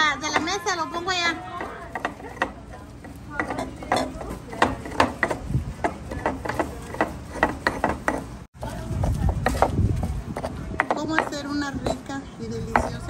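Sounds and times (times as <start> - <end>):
faint voices: 0.0 - 13.0.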